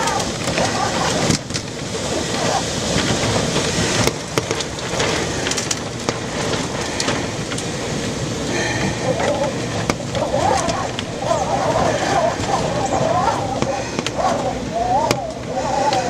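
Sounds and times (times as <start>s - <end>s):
heavy rain: 0.0s - 16.0s
storm wind: 0.0s - 16.0s.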